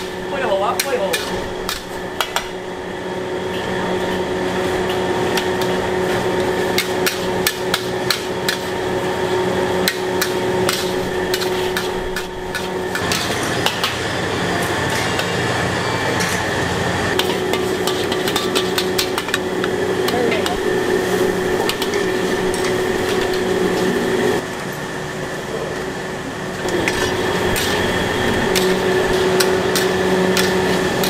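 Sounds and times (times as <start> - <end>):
ladle clanking and scraping a wok: 0.0 - 2.7, 3.4 - 15.5, 16.1 - 24.1, 26.7 - 31.0
steady hum: 0.0 - 14.4, 15.3 - 31.0.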